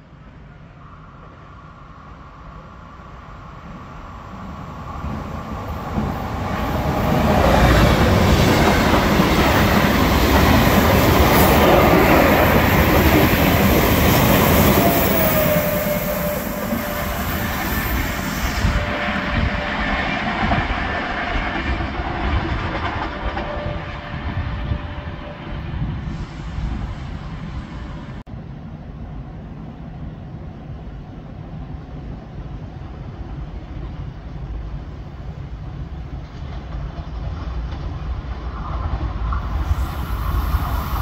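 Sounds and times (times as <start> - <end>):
train passing at speed: 0.0 - 41.0.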